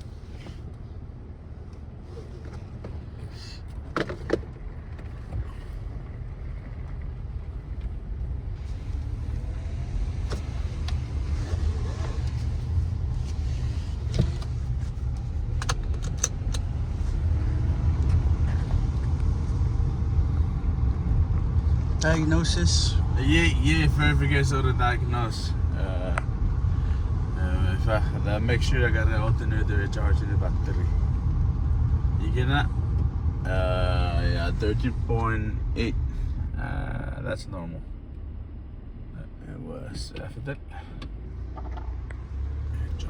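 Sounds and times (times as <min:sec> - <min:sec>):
car road and engine rumble: 0:00.0 - 0:43.0.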